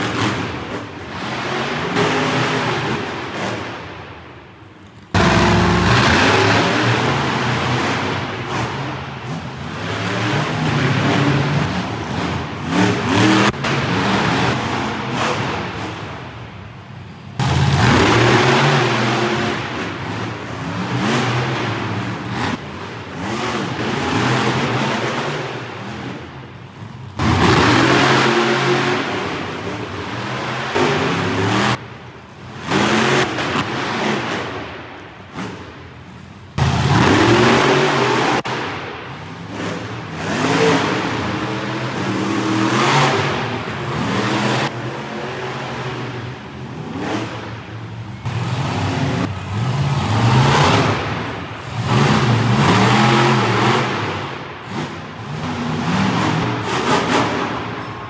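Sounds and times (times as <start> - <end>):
monster truck engines revving: 0.0 - 58.0.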